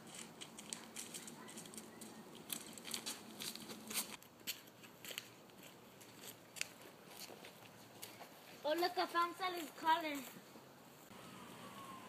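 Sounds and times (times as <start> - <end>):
dry leaves rustling underfoot: 0.0 - 10.3
footsteps on brick pavers: 0.0 - 10.4.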